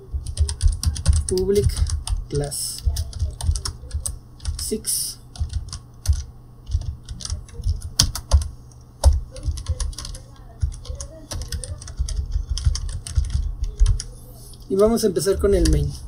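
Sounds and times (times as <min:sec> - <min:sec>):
keyboard typing: 0:00.0 - 0:14.2, 0:14.8 - 0:15.9.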